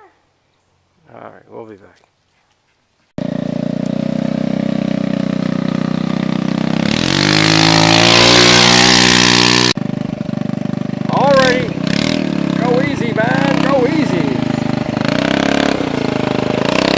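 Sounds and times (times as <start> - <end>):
motor engine revving: 3.2 - 16.9.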